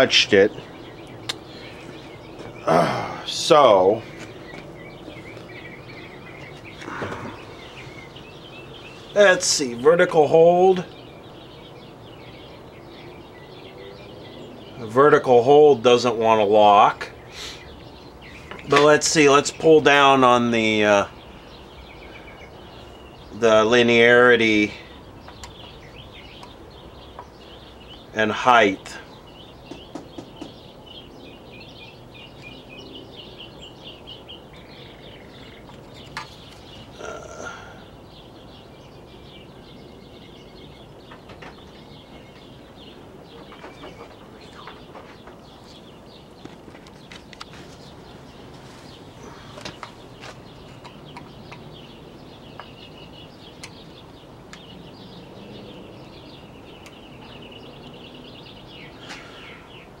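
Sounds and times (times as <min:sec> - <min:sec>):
bird chirping falling notes: 0:00.0 - 1:00.0.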